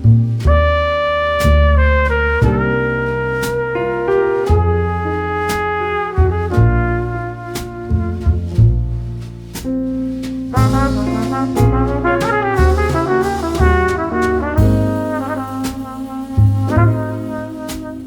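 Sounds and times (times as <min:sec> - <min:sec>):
brass music with steady beat: 0:00.0 - 0:18.0.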